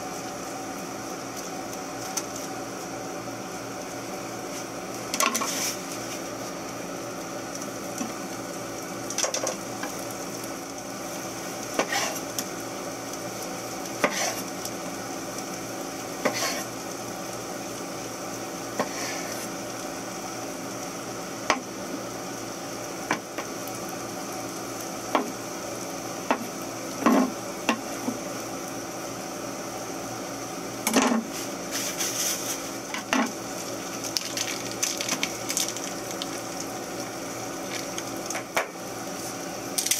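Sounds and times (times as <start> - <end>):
onions sizzling in a frying pan: 0.0 - 39.9.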